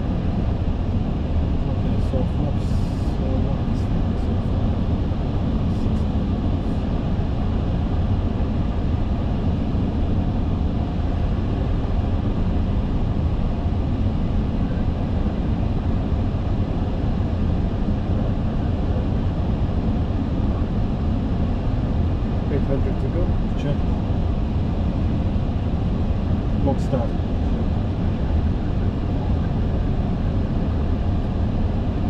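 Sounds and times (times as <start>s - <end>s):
cockpit rumble in flight: 0.0s - 32.0s.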